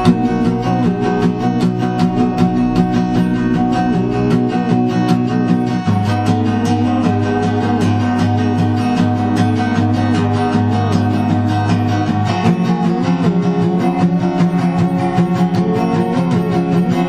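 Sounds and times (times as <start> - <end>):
acoustic guitar strumming: 0.0 - 17.0
wavering melody line: 0.0 - 17.0.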